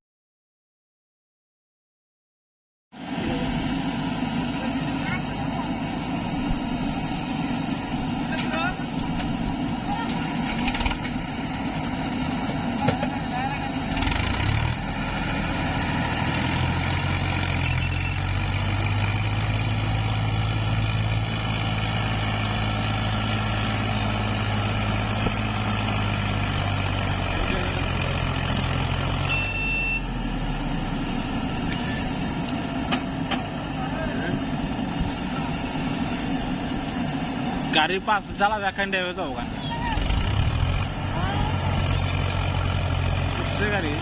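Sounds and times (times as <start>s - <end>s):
heavy diesel engine running: 3.0s - 44.0s.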